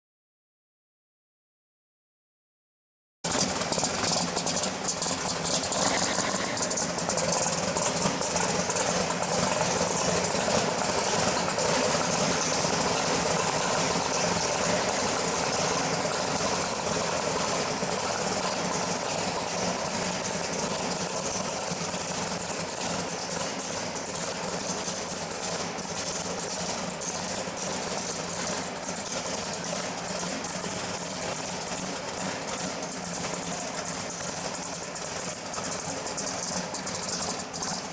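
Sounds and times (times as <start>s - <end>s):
car engine idling: 3.2s - 37.9s.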